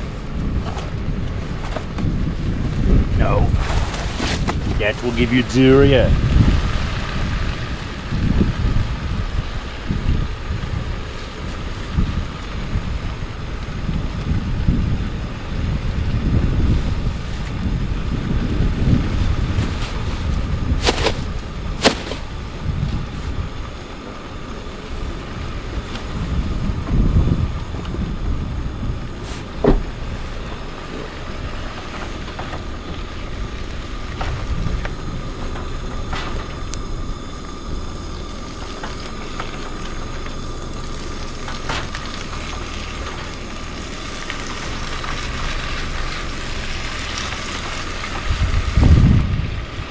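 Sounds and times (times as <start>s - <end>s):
faint steady hum: 0.0s - 49.9s
wind buffeting microphone: 0.0s - 49.9s.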